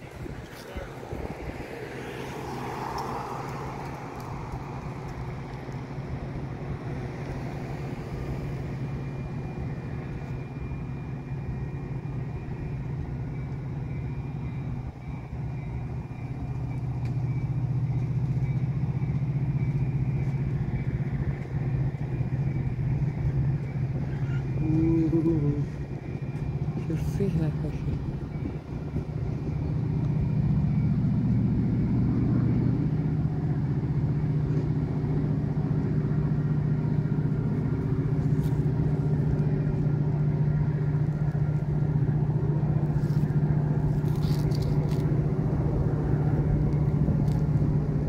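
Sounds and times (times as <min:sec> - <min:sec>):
diesel locomotive droning: 0:00.0 - 0:48.0.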